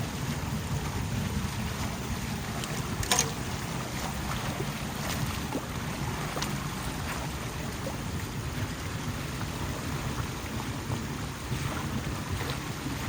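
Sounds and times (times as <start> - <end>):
floodwater rushing: 0.0 - 13.0
wind buffeting microphone: 0.0 - 13.0.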